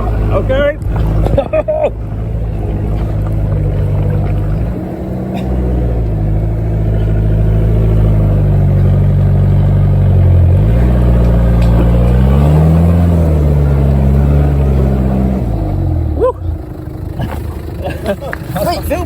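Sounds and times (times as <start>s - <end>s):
engine working hard under load: 0.0s - 19.0s.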